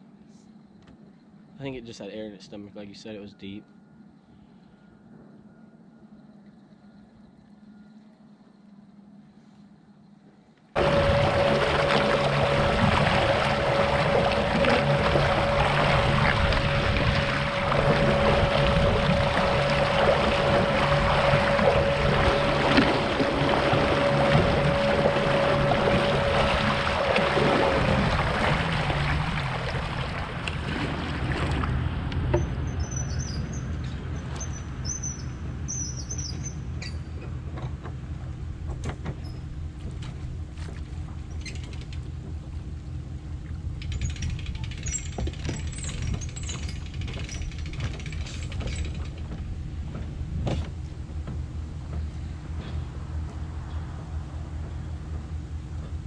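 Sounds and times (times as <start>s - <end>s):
boat motor rumbling: 0.0s - 56.0s.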